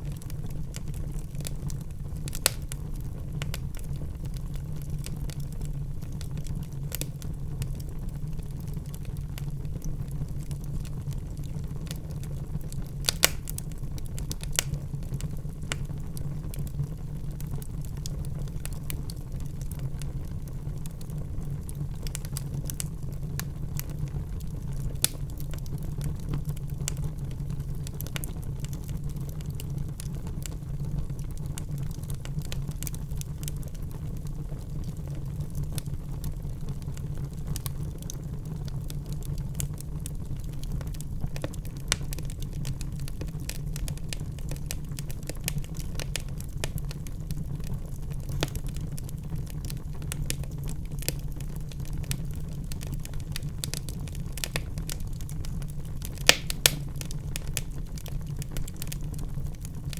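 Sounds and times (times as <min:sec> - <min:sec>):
sharp fire pops and snaps: 0:00.0 - 0:59.9
wood fire crackling: 0:00.0 - 0:59.9.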